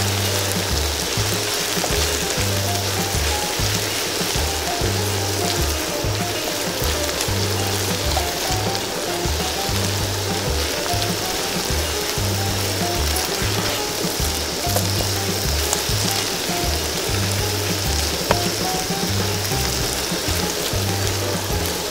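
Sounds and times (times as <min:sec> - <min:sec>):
background music with bass line: 0:00.0 - 0:21.9
deep-frying sizzle: 0:00.0 - 0:21.9.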